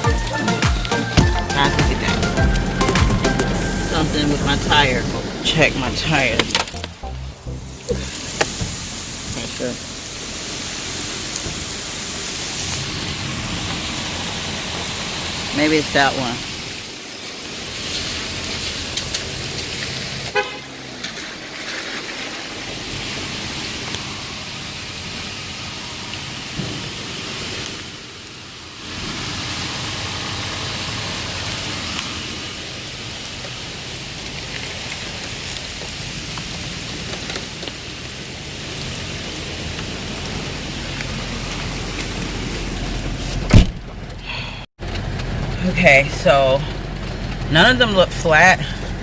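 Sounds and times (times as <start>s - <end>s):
steady rain hiss: 0.0s - 49.0s
street and car noise: 0.0s - 49.0s.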